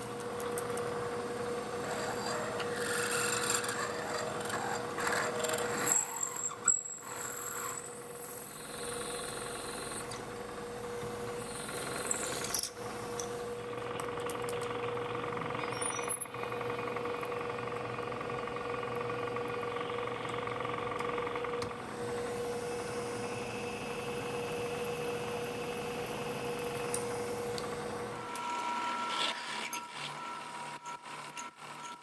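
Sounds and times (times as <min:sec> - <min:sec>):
milling machine motor hum: 0:00.0 - 0:15.6, 0:16.2 - 0:32.0.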